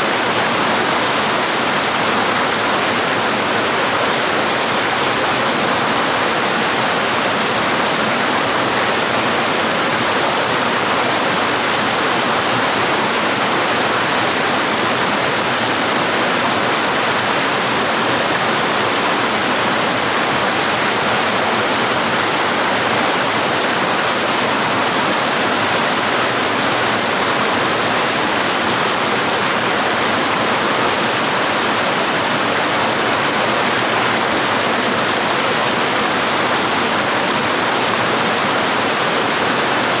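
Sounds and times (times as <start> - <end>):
waterfall water flowing: 0.0 - 40.0.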